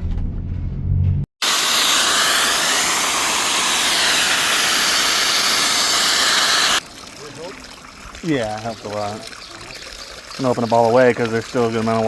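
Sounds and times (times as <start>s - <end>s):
water rushing from pipe: 1.4s - 12.0s.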